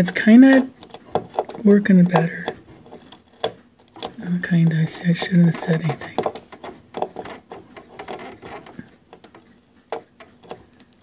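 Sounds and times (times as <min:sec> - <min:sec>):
strip peeling scratches and clicks: 0:00.2 - 0:11.0.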